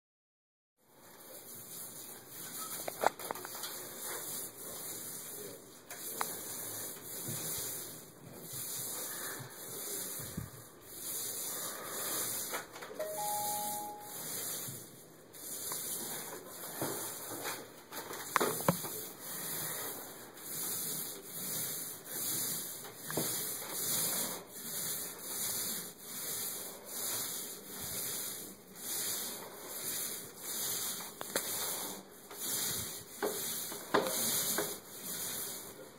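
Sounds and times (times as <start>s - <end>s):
paint roller sticky hiss: 1.1s - 35.9s.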